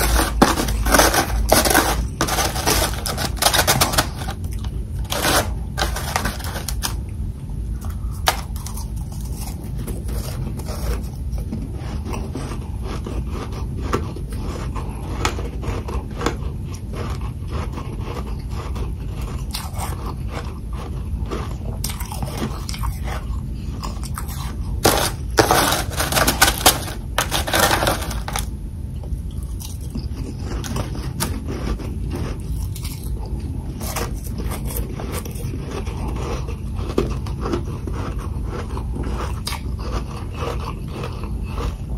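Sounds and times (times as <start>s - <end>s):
frost being chewed with crunches: 0.0s - 41.9s
steady low hum: 0.0s - 41.9s.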